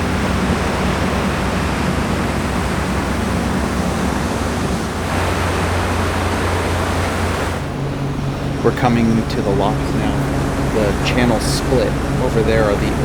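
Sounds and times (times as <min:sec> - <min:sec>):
low machinery hum: 0:00.0 - 0:13.0
wind and water rushing: 0:00.0 - 0:13.0.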